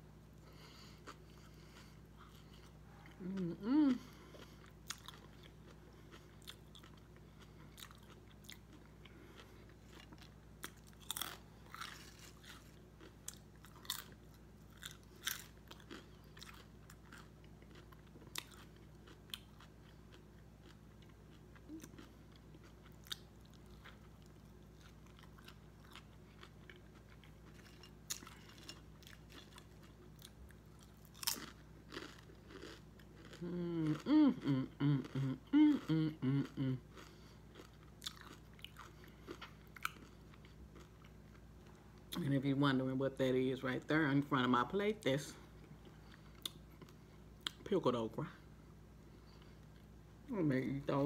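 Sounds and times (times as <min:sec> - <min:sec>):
chewing crunchy food: 0:00.5 - 0:42.2, 0:45.3 - 0:47.7.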